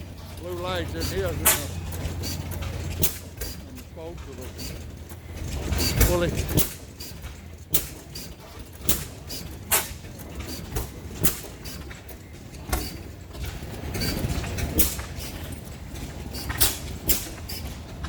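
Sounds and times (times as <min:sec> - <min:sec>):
oil field engines running: 0:00.0 - 0:18.0
sharp exhaust pops: 0:00.0 - 0:18.0.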